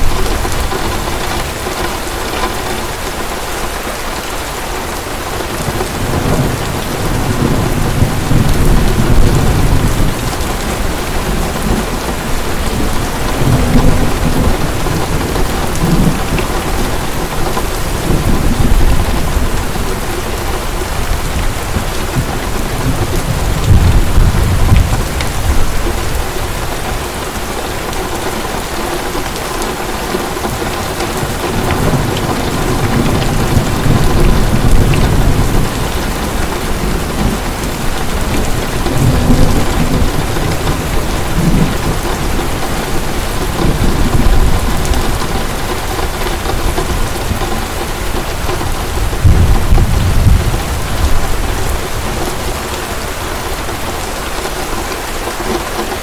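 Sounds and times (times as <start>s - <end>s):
thunder rumbling: 0.0s - 3.7s, 5.2s - 54.4s
heavy rain pouring: 0.0s - 56.0s.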